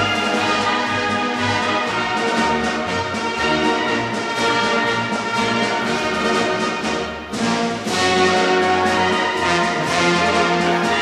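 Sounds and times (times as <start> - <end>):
orchestral brass chords: 0.0 - 11.0.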